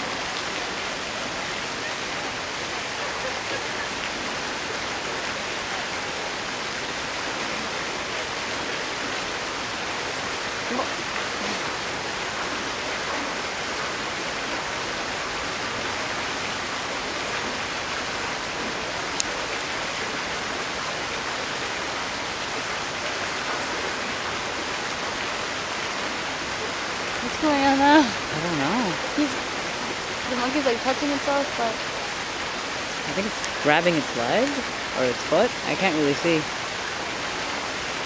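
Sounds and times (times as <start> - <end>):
running water rushing: 0.0 - 38.0.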